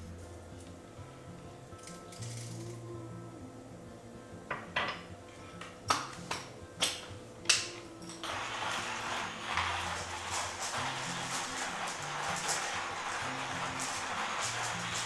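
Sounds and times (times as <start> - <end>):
soft background music: 0.0 - 15.0
steady hissing noise: 0.0 - 15.0.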